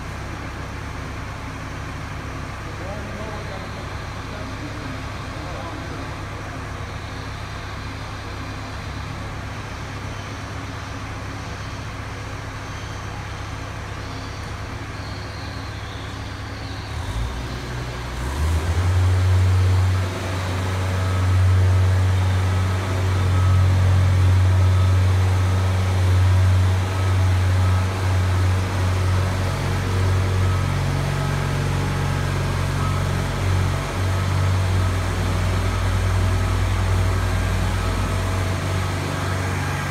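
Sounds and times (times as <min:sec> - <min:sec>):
boom lift mechanical hum: 0:00.0 - 0:39.9.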